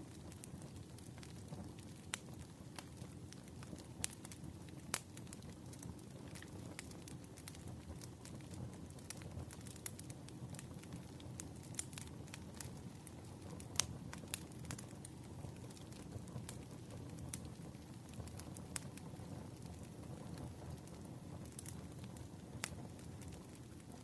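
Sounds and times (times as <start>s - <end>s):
low rumble of burning logs: 0.0s - 24.0s
wood fire crackling: 0.0s - 24.0s.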